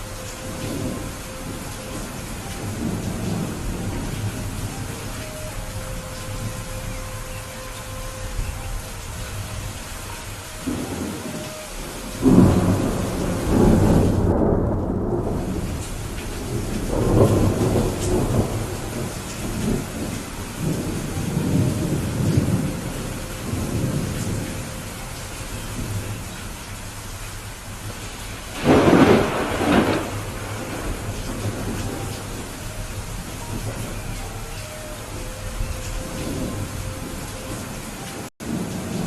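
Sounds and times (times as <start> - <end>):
steady rain: 0.0 - 39.0
thunder rumbling: 0.0 - 39.0.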